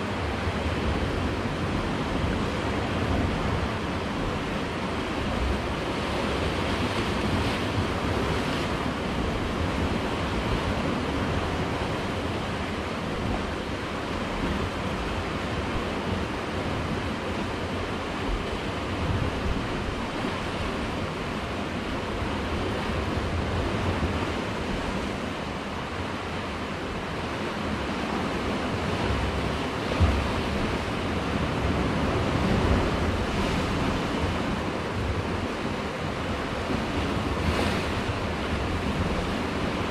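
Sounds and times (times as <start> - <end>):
sea surf washing against rocks: 0.0 - 39.9.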